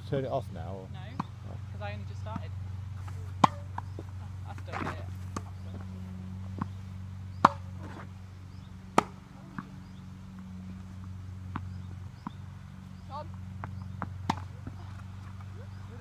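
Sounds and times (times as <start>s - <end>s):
steady low hum: 0.0s - 16.0s
tennis ball hits and bounces: 1.1s - 8.2s, 8.8s - 16.0s.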